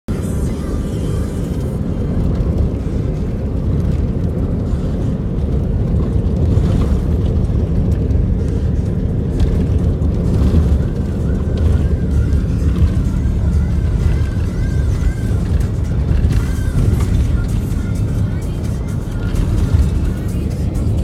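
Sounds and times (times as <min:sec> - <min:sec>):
car driving on gravel: 0:00.1 - 0:21.0.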